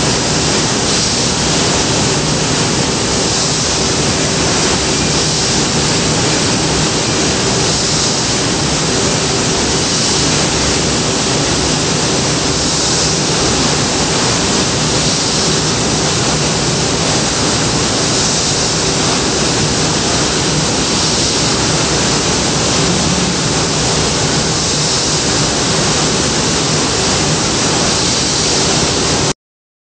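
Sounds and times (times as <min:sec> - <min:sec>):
gas engines roaring: 0:00.0 - 0:29.2.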